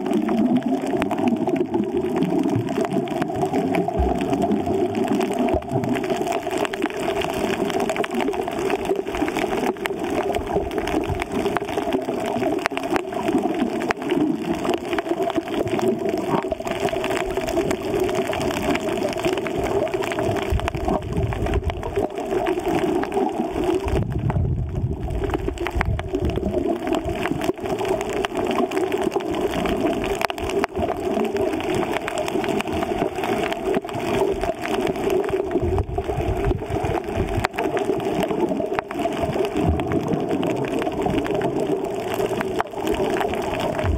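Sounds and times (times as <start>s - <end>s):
deep rumble of water movement: 0.0s - 43.9s
muffled underwater hiss: 0.0s - 43.9s.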